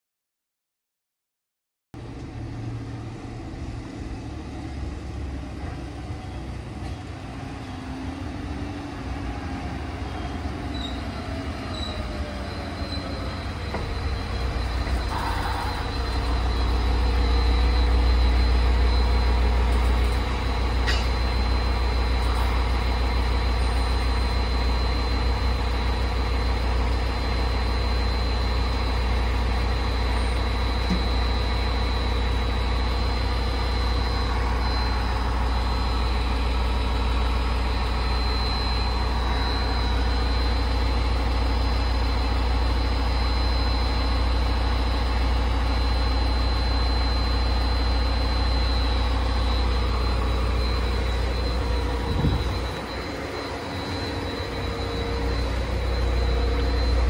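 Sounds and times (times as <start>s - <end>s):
diesel engine idling rumble: 2.0s - 57.0s
train slowing with falling whine: 2.0s - 57.0s
thin high whine: 10.7s - 57.0s.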